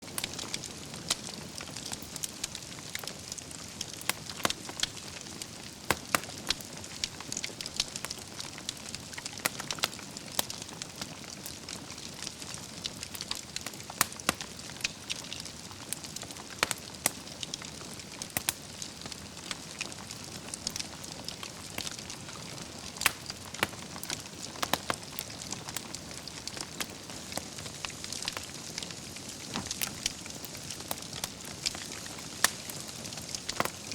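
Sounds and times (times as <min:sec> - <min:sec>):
logs crackling and popping: 0:00.0 - 0:33.9.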